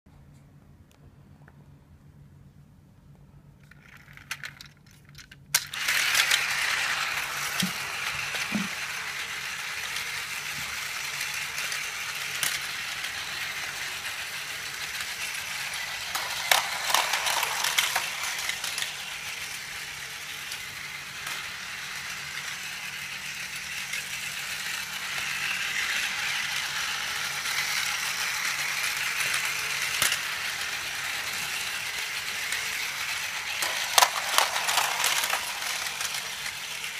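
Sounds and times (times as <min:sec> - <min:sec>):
toy train motor whirring: 0:03.6 - 0:36.9
toy train wheels rattling: 0:03.6 - 0:36.9.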